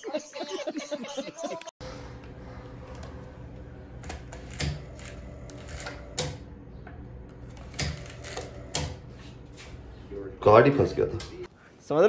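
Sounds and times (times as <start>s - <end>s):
steady low hum: 1.8s - 11.5s.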